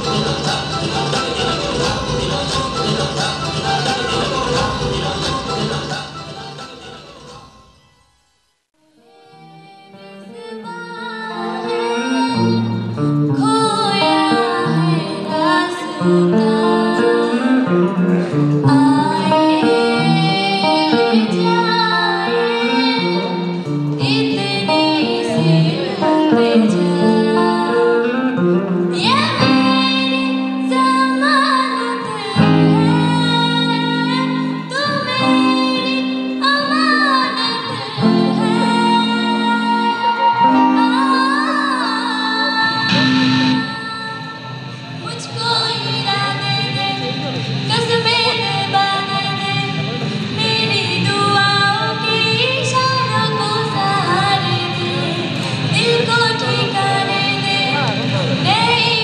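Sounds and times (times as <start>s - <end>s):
electric guitar: 0.0s - 7.8s, 9.0s - 59.0s
woman singing: 9.0s - 59.0s.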